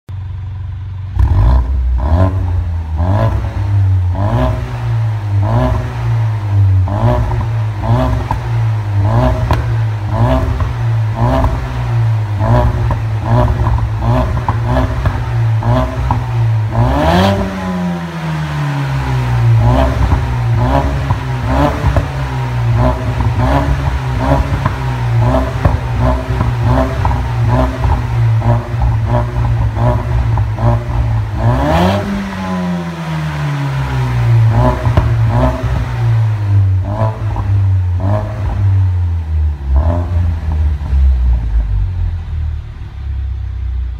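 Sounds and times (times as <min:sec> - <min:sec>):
car engine revving: 0:00.3 - 0:43.9.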